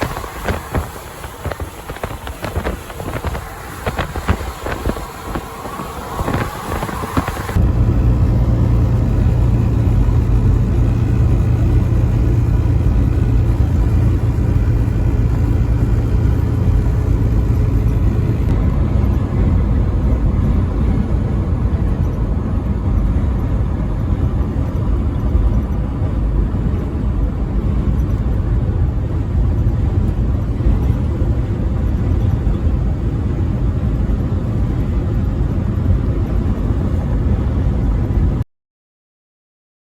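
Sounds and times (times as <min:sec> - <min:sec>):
steady engine tone: 0:00.0 - 0:38.4
truck engine and tyre rumble: 0:00.0 - 0:38.5.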